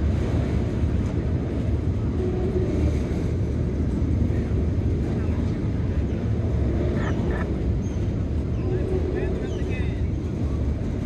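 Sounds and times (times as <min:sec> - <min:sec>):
freight train rumbling past: 0:00.0 - 0:11.0
wind buffeting microphone: 0:00.0 - 0:11.0.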